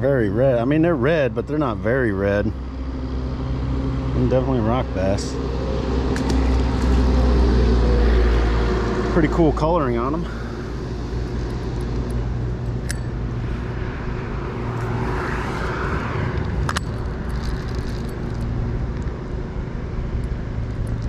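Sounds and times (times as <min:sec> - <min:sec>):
traffic drone: 0:00.0 - 0:21.0
car passing: 0:00.9 - 0:20.6.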